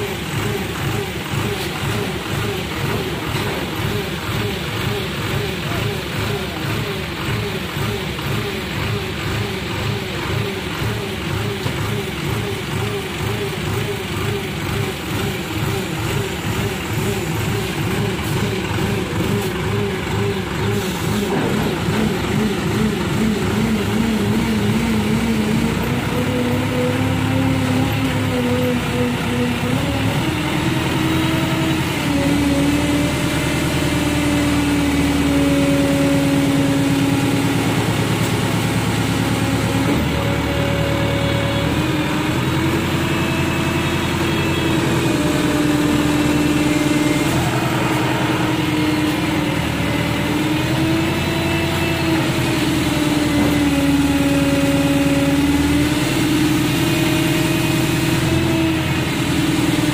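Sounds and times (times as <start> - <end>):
crane diesel engine under load: 0.0 - 59.9.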